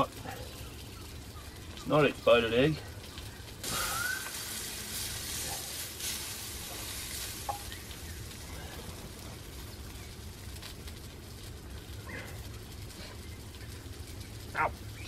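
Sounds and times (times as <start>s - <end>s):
sausages sizzling in a pan: 0.0s - 15.0s.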